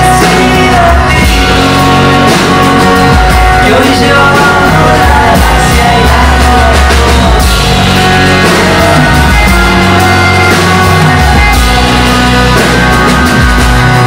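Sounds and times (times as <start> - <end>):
electric bass: 0.0 - 14.0
person singing: 0.0 - 14.0
strummed acoustic guitar: 0.0 - 14.0.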